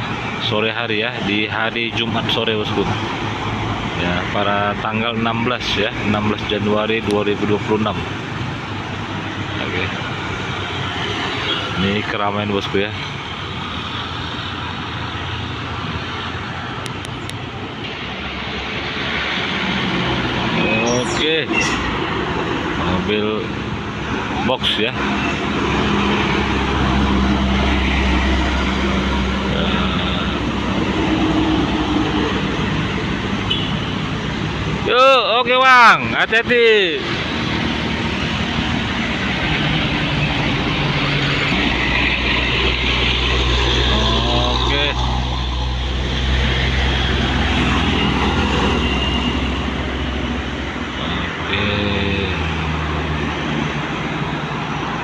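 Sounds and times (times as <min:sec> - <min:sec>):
deep heavy engine drone: 0:00.0 - 0:55.0
traffic passing by: 0:00.0 - 0:55.0.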